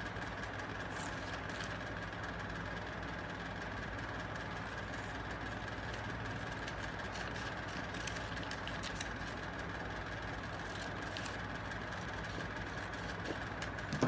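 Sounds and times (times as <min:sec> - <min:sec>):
scissors cutting paper: 0:00.0 - 0:02.2, 0:04.2 - 0:14.0
mechanical hum with whine: 0:00.0 - 0:14.0.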